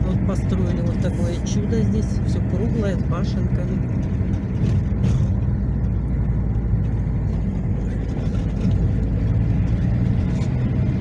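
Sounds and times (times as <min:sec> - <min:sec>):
car engine and tyres drone: 0:00.0 - 0:11.0.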